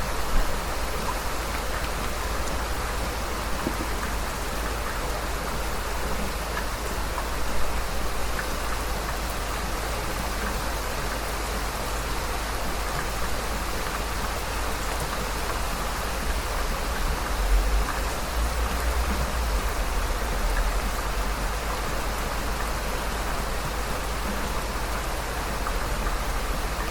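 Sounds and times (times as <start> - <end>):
heavy rain hissing: 0.0 - 26.9.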